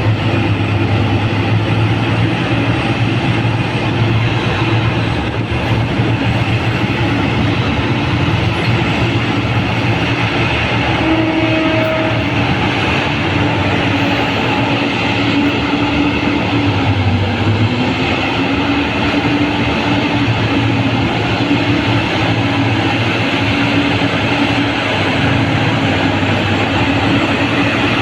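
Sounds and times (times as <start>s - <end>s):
excavator diesel engine drone: 0.0s - 28.0s.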